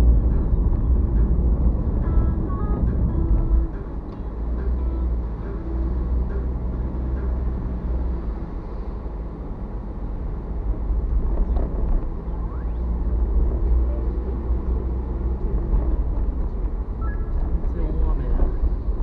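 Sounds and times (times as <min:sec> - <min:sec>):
car engine and road rumble: 0:00.0 - 0:19.0
tyres on wet road: 0:02.9 - 0:19.0.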